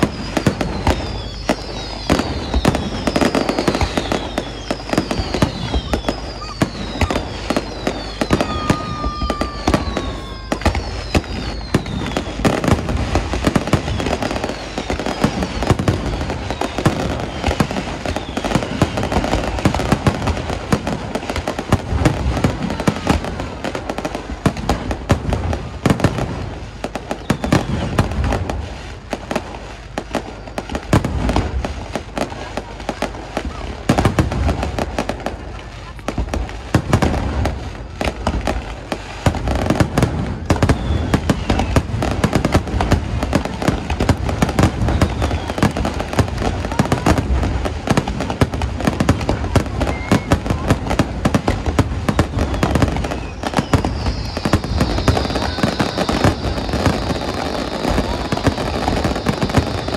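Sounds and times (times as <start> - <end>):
fireworks bangs and crackling: 0.0 - 59.9
fireworks falling whistles: 0.0 - 59.9.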